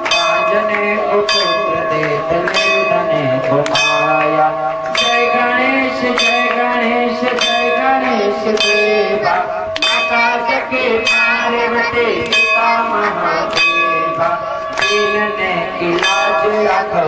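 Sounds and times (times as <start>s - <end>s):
bell struck in steady beat: 0.0s - 17.0s
voices singing: 0.0s - 17.0s.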